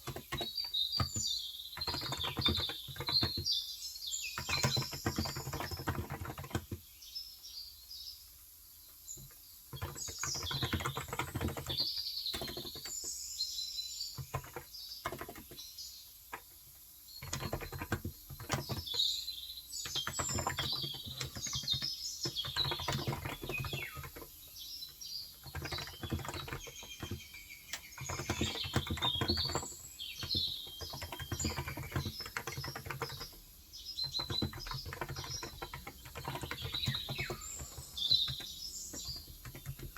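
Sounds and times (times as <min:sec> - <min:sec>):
typing on keyboard: 0:00.0 - 0:03.6, 0:04.3 - 0:06.9, 0:09.2 - 0:13.1, 0:14.1 - 0:15.7, 0:16.3 - 0:39.9
small birds chirping: 0:00.0 - 0:39.9.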